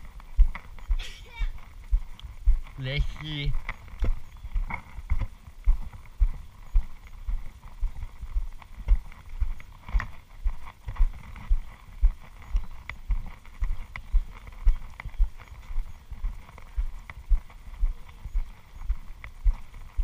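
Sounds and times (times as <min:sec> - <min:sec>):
footsteps on dirt trail: 0:00.0 - 0:20.0.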